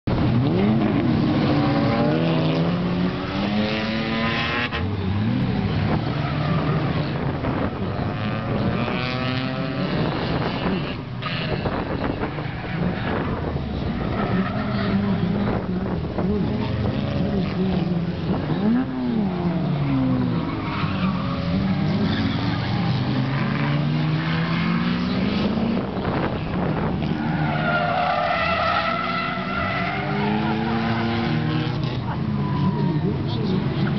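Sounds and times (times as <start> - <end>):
race car engines accelerating: 0.0 - 33.9.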